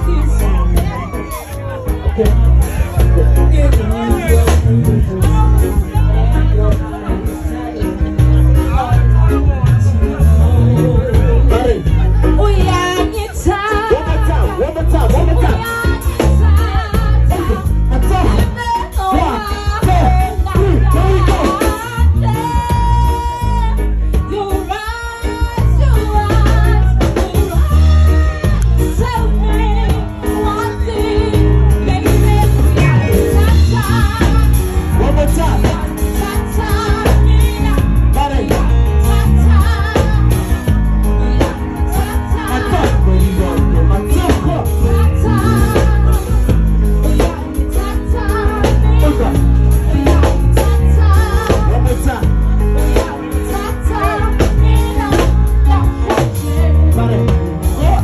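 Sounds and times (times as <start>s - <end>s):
drum kit: 0.0s - 58.0s
heavy bass guitar: 0.0s - 58.0s
keyboard: 0.0s - 58.0s
woman singing into microphone: 8.6s - 58.0s.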